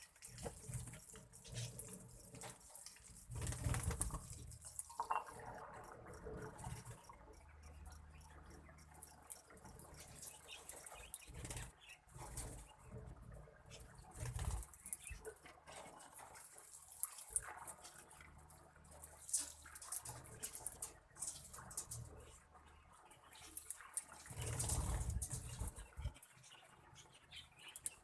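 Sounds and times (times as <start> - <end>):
birds clicking and rustling: 0.0 - 28.0
low steady hum: 0.1 - 28.0.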